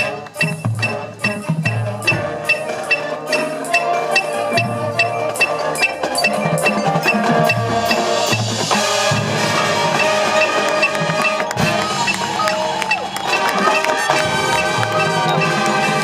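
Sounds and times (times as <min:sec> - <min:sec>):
marching band playing: 0:00.0 - 0:16.0
percussion striking quick beat: 0:00.0 - 0:16.0.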